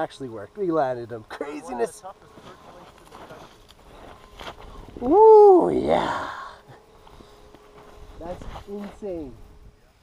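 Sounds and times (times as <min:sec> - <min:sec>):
faint steady tone: 0:00.0 - 0:10.0.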